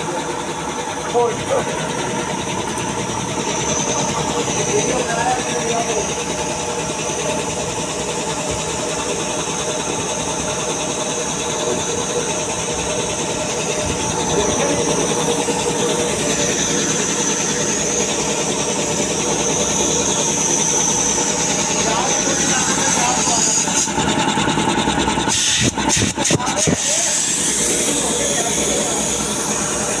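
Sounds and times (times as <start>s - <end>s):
air compressor running: 0.0s - 30.0s.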